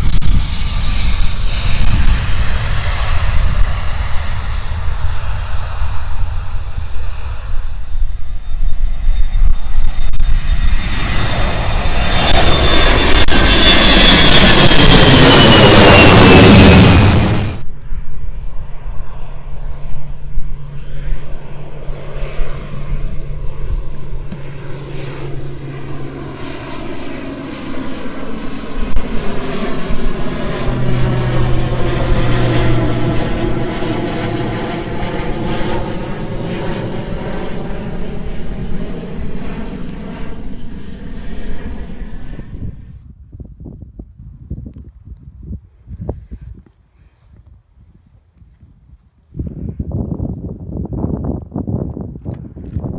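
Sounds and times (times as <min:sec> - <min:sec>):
airliner engines passing low: 0:00.0 - 0:52.9.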